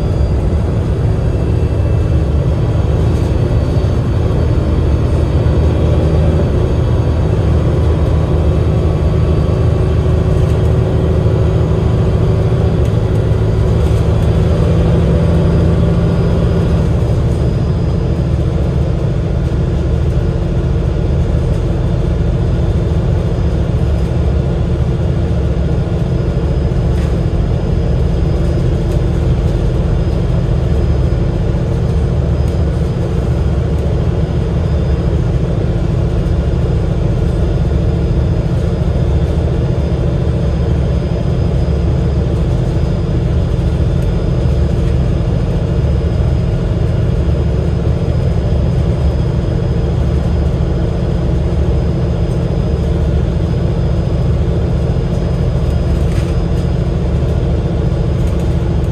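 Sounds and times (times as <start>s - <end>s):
bus engine low drone: 0.0s - 58.9s.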